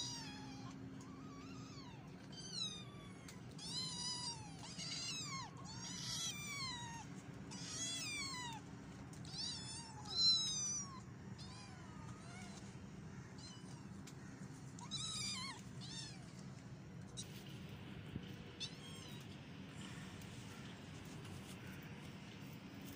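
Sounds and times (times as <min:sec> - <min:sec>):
kittens meowing: 0:00.0 - 0:17.4, 0:18.5 - 0:20.6.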